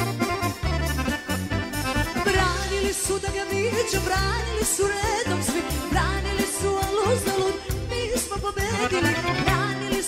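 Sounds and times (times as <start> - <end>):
ornamented lead melody: 0.0 - 10.0.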